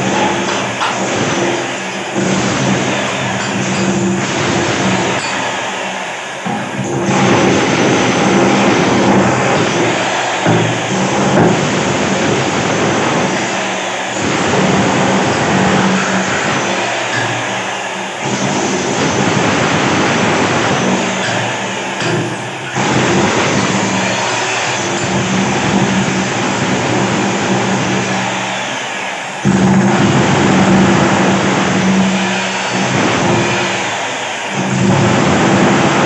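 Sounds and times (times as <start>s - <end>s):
demolition hammer chipping tiles: 0.0s - 28.8s, 29.4s - 36.0s.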